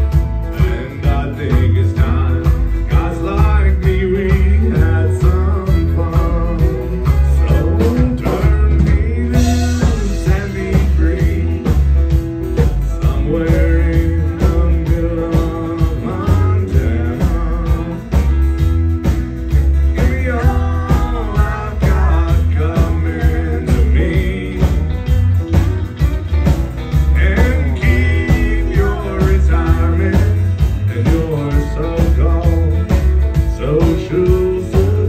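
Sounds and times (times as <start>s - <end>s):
vocals: 0.0s - 25.6s, 26.8s - 35.0s
drum beat: 0.0s - 35.0s
live country band playing: 0.0s - 35.0s.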